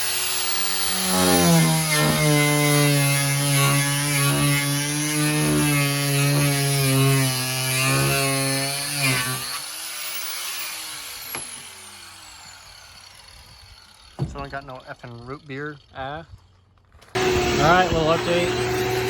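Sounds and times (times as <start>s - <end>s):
power tool motor winding down: 0.0s - 14.2s, 17.1s - 19.0s.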